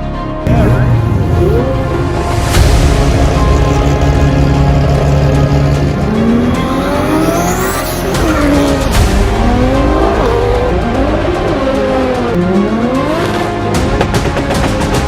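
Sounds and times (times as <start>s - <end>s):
background music: 0.0s - 15.0s
car engines revving: 0.4s - 15.0s.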